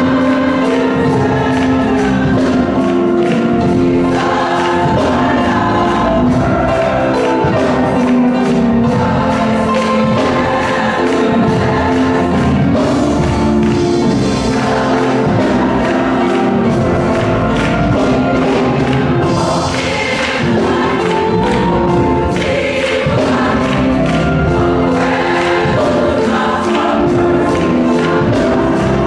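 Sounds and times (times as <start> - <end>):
women's choir singing: 0.0 - 29.0.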